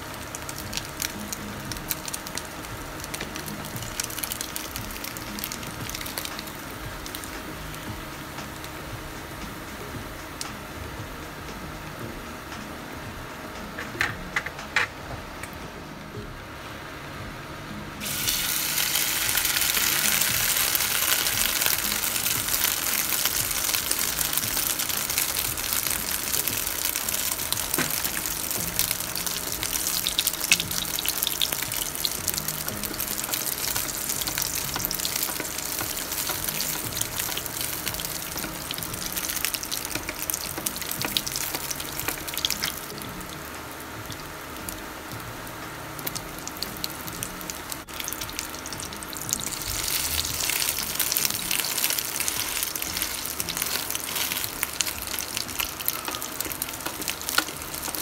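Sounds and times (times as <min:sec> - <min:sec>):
omelette sizzling in frying pan: 0:00.0 - 0:10.7, 0:18.0 - 0:58.0.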